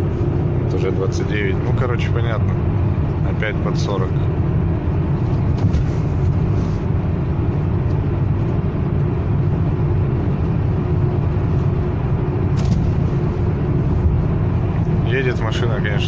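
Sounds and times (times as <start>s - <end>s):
engine and road rumble in car: 0.0s - 16.0s
faint constant hum: 0.0s - 16.0s.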